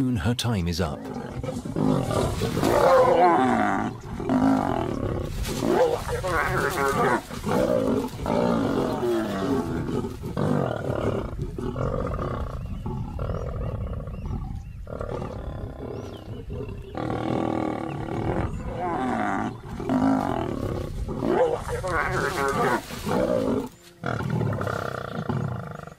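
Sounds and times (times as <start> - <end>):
lions growling and snarling: 1.0 - 25.9.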